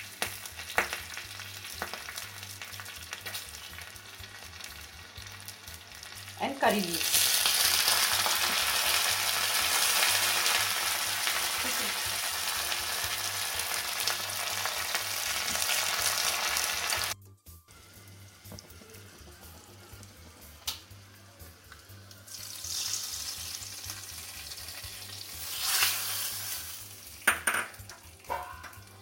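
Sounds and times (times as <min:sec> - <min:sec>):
spices sizzling in hot oil: 0:00.0 - 0:17.2, 0:17.9 - 0:29.0.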